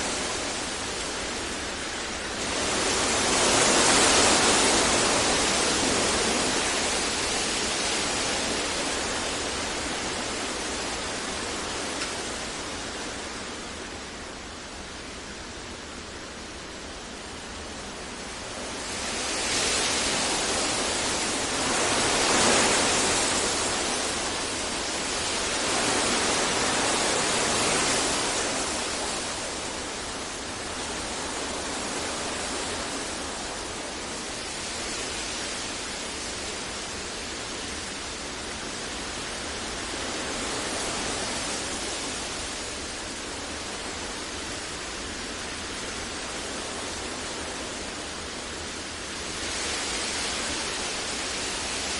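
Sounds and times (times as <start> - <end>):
continuous even hiss: 0.0 - 51.9.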